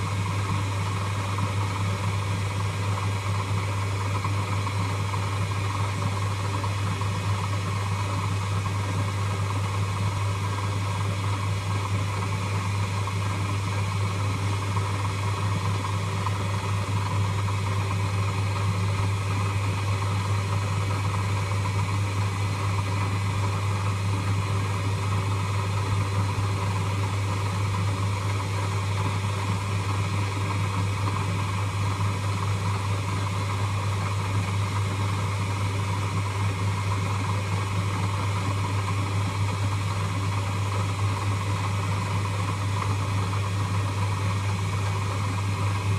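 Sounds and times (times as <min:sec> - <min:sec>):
lathe motor humming: 0:00.0 - 0:45.9.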